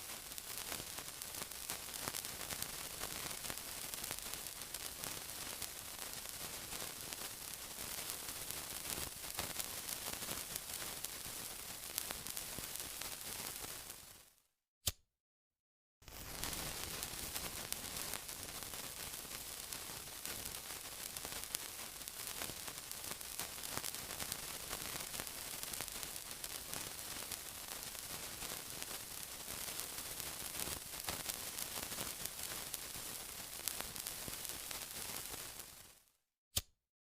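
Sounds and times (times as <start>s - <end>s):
sizzling hiss with tiny pops: 0.0s - 14.4s, 16.0s - 36.7s.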